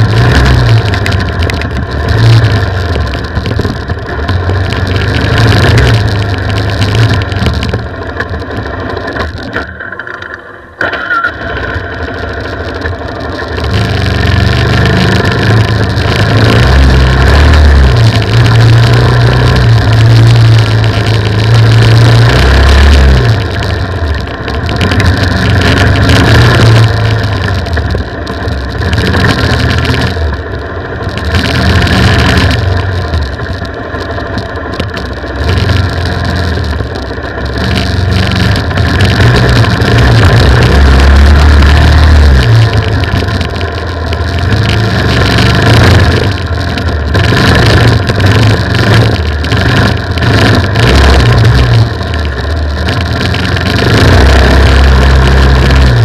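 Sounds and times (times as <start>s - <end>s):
low rumble on microphone: 0.0s - 9.7s, 11.9s - 56.0s
motorcycle engine revving: 0.0s - 56.0s.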